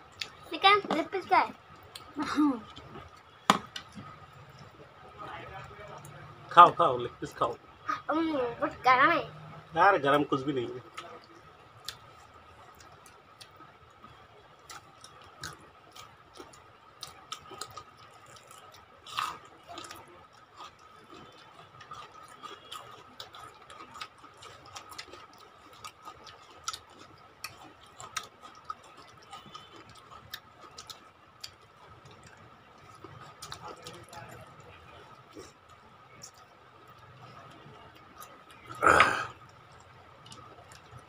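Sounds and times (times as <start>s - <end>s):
wet mouth clicks and chewing: 1.8s - 4.8s, 10.9s - 41.0s.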